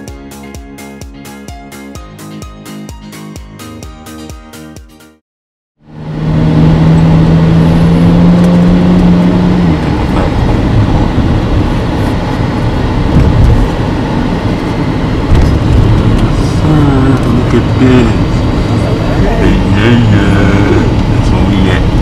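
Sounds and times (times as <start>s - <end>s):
car engine and road noise: 0.0s - 5.2s, 5.8s - 22.0s.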